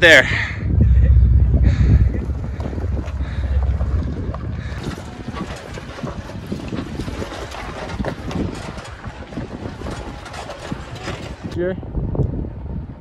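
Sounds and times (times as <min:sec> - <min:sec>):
wind buffeting microphone: 0:00.0 - 0:13.0
sharp crackling: 0:00.6 - 0:11.6
truck crawling over rocks: 0:00.6 - 0:11.6.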